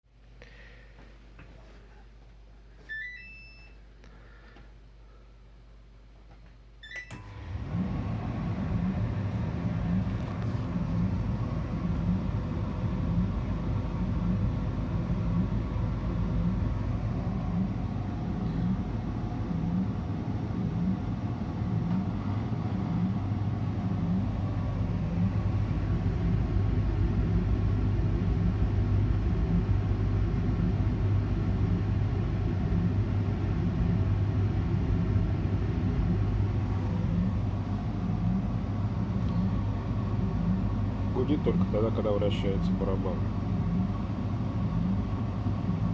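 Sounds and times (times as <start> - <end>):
tumble dryer humming: 7.1 - 45.9
drum cyclic noise: 7.5 - 45.9.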